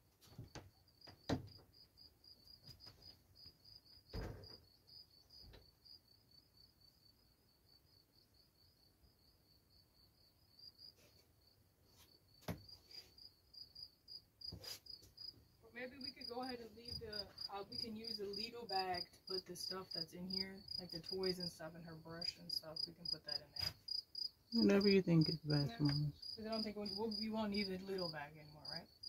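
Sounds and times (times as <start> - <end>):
cricket chirping: 0.2 - 29.0.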